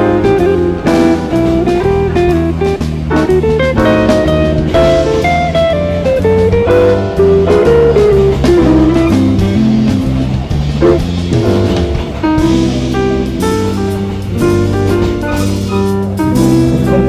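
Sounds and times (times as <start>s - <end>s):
plucked guitar melody: 0.0s - 17.0s
repeating bass line: 0.0s - 17.0s.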